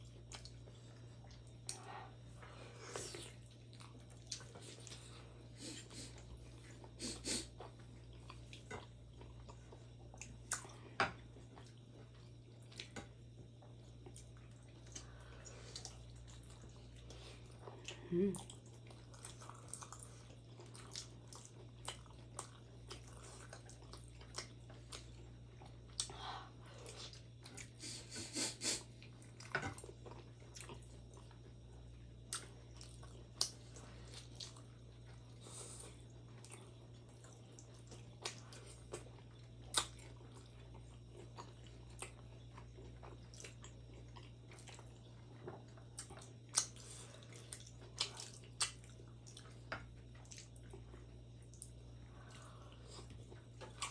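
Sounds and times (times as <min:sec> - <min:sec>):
steady low hum: 0:00.0 - 0:53.9
wet chewing of dumplings: 0:00.0 - 0:53.9.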